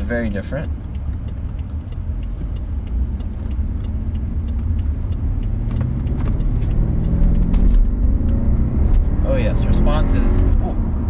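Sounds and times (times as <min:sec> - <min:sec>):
car engine accelerating: 0:00.0 - 0:11.0
road rumble inside car: 0:00.0 - 0:11.0.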